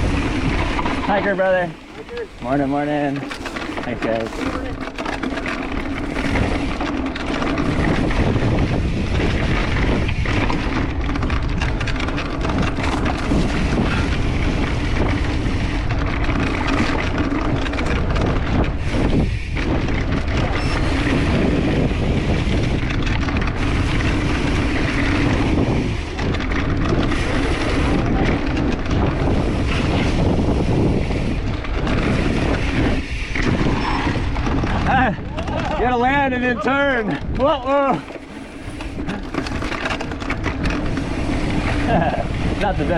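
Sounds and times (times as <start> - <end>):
bike tyres on dirt trail: 0.0 - 42.9
wind buffeting microphone: 0.0 - 42.9.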